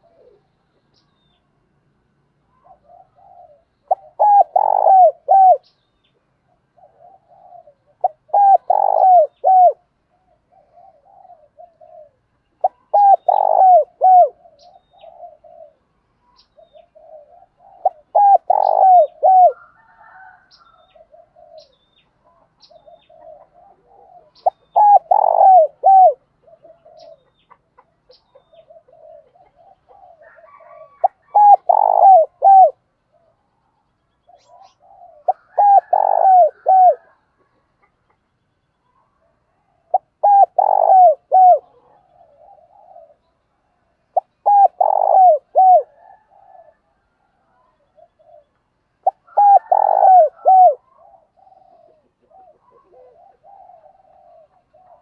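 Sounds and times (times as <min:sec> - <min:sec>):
dove cooing: 0:00.0 - 0:00.8, 0:02.4 - 0:05.7, 0:06.4 - 0:33.5, 0:34.3 - 0:38.1, 0:39.0 - 0:55.0.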